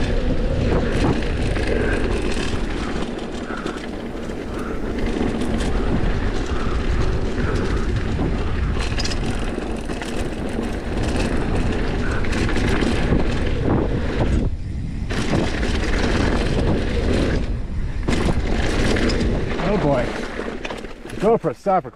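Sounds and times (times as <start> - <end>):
wind on microphone: 0.0 - 21.2
bike knocks and rattles: 0.0 - 21.4
bike tyres rolling on dirt: 0.0 - 21.9.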